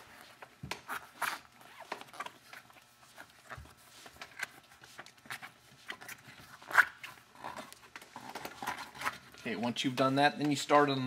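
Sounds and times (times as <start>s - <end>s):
rubber tube rustling: 0.0s - 10.5s.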